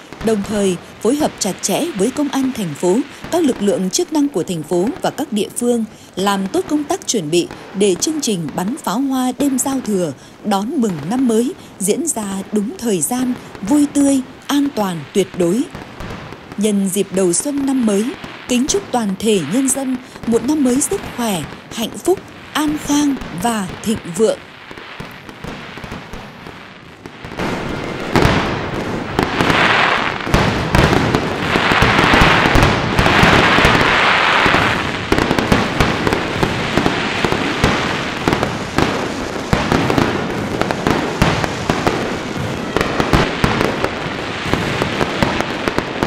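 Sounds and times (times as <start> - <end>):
fireworks crackling and banging: 0.0 - 46.0.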